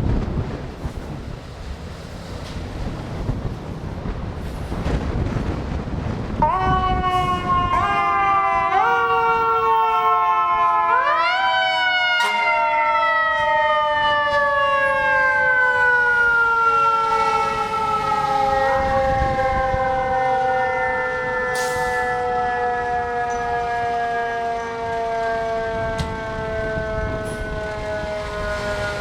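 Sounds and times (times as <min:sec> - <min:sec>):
fire engine siren: 0:00.0 - 0:29.0.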